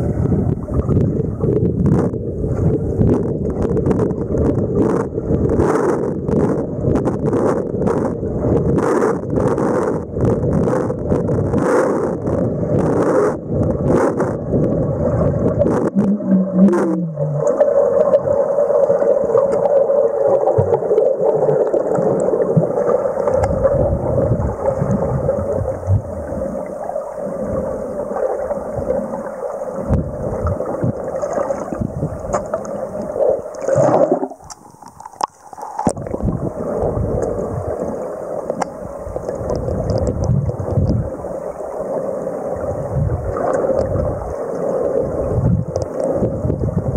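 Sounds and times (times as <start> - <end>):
underwater rushing hum: 0.0 - 46.9
clicks and gurgles: 0.4 - 26.0, 29.9 - 41.1, 43.3 - 44.8, 45.4 - 46.7.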